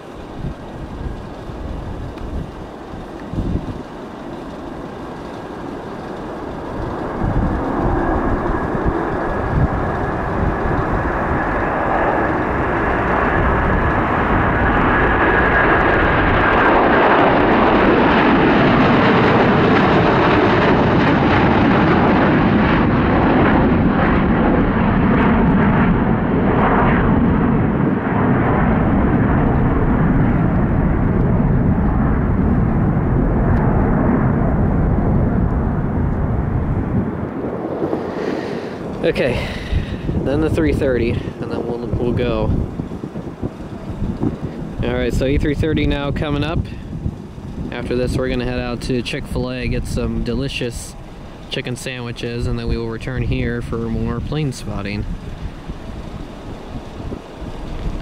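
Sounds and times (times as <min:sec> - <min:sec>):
crackling jet rumble: 0:00.0 - 0:58.0
high jet engine whine: 0:00.0 - 0:58.0
jet taking off: 0:00.0 - 0:58.0.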